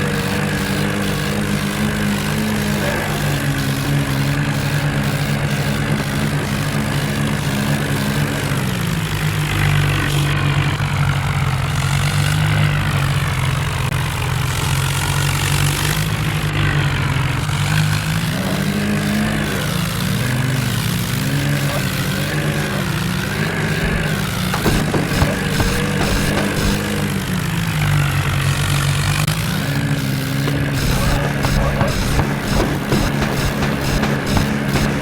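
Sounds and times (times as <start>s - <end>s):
tractor diesel engines under load: 0.0s - 35.0s.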